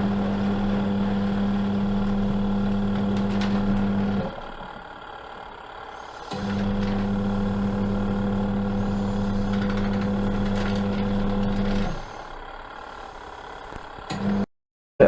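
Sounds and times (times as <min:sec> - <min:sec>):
washing machine motor humming: 0:00.0 - 0:14.5.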